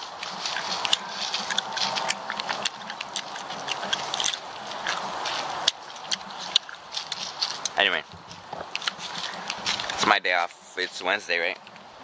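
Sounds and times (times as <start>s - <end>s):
steady rustling hiss: 0.0s - 12.0s.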